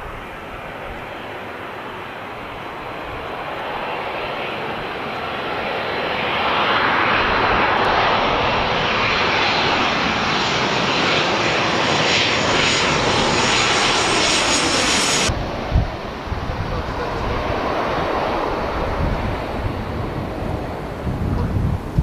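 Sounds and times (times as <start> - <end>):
high-pitched engine whine: 0.0 - 20.6
jet airliner passing overhead: 0.0 - 22.0.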